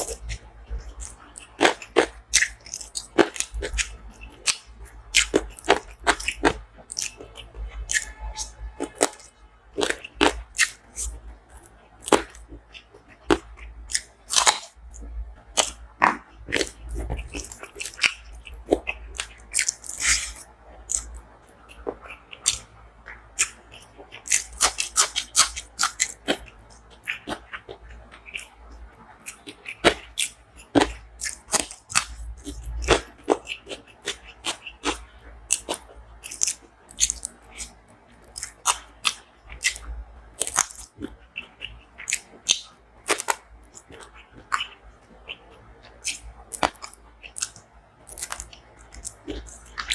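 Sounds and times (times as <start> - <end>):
person chewing crunchy food: 0.0 - 49.9.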